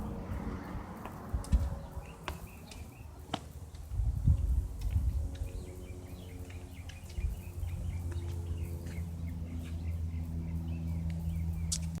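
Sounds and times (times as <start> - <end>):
propeller plane droning overhead: 0.0 - 12.0
small birds chirping: 0.6 - 12.0.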